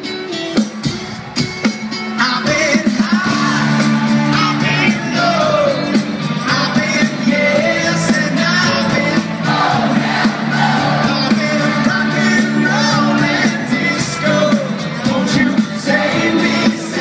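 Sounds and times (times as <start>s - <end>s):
live pop-rock band playing: 0.0s - 17.0s
steady drum beat: 0.0s - 17.0s
man singing: 2.1s - 17.0s.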